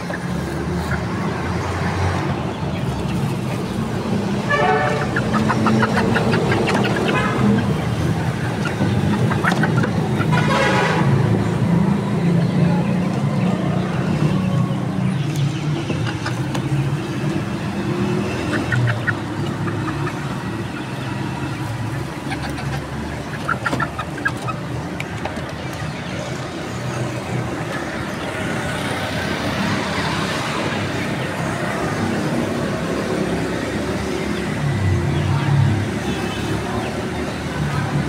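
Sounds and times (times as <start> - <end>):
chickens clucking: 0.0 - 38.0
low rumble of road traffic: 0.0 - 38.0.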